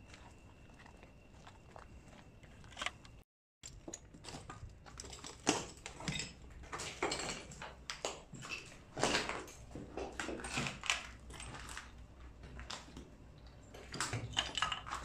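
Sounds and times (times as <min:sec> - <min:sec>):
footsteps crunching on rubble: 0:00.0 - 0:13.2.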